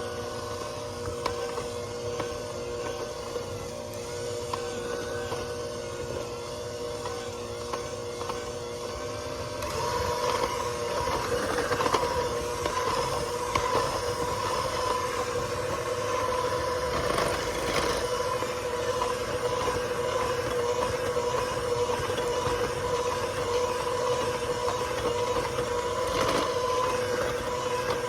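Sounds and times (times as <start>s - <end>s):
electric hand mixer running: 0.0s - 28.0s.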